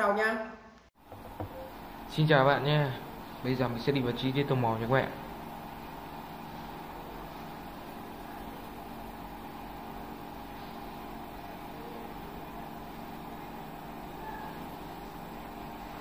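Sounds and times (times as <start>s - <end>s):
background hum and hiss: 1.0s - 16.0s.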